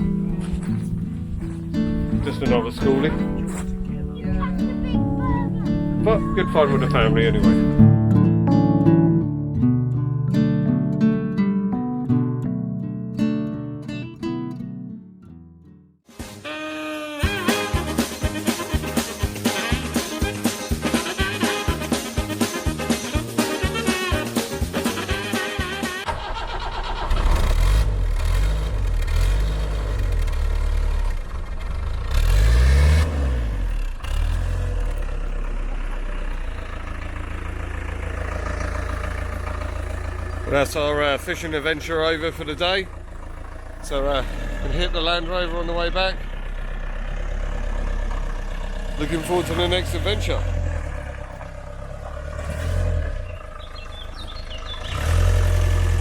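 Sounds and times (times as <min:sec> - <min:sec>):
car engine revving: 0:00.0 - 0:08.2, 0:17.2 - 0:56.0.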